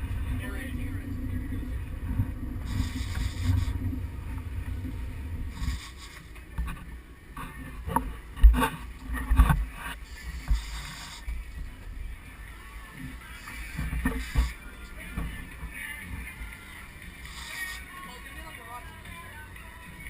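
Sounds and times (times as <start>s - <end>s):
boat engine low rumble: 0.0s - 20.0s.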